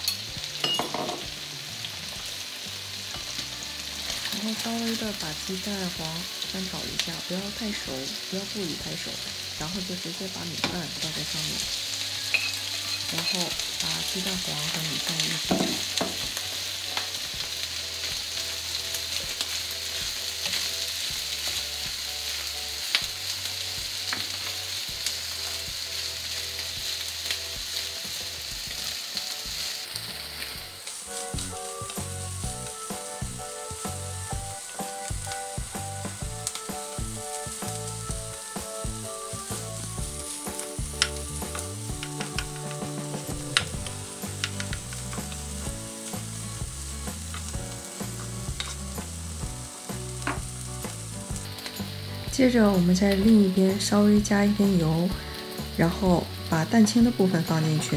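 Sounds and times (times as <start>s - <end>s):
rice sizzling in oil: 0.0s - 57.9s.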